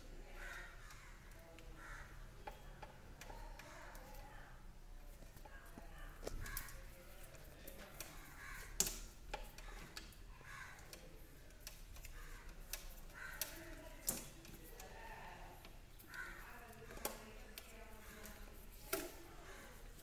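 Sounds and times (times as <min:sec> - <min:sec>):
clicks and taps of wires: 0:02.4 - 0:04.5, 0:05.2 - 0:20.0.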